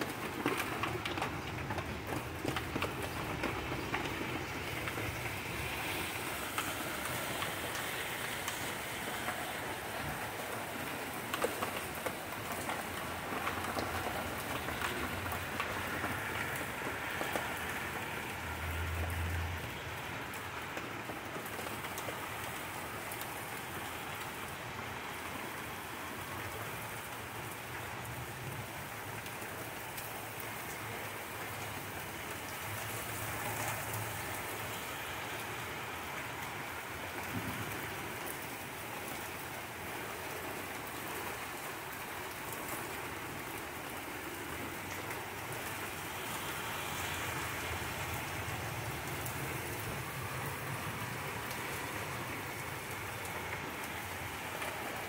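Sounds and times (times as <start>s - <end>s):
steady rain on plants: 0.0s - 55.0s.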